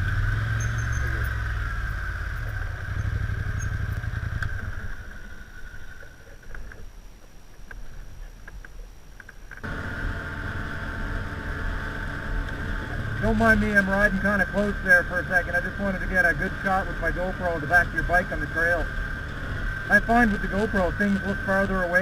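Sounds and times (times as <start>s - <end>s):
atv engine running: 0.0s - 7.3s, 9.5s - 22.0s.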